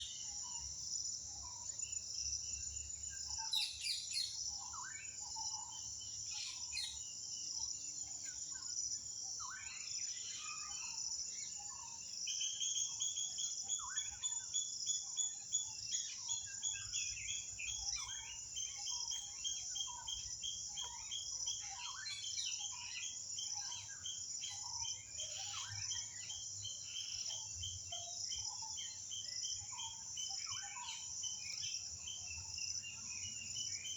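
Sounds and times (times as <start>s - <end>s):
crickets droning: 0.0s - 33.9s.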